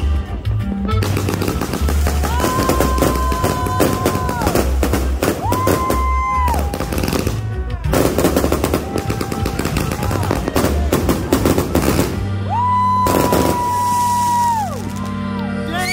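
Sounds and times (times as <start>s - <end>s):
fireworks bangs and crackles: 0.9s - 15.2s.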